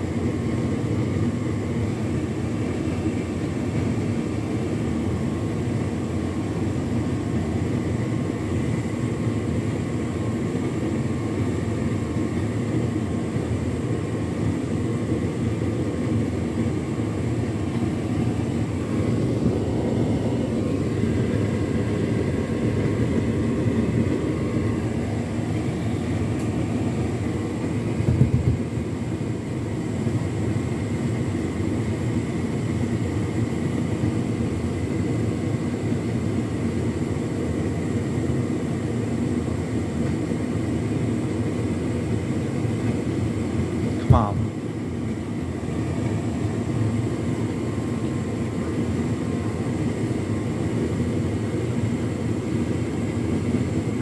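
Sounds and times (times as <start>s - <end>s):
tumble dryer whirring rumble: 0.0s - 54.0s.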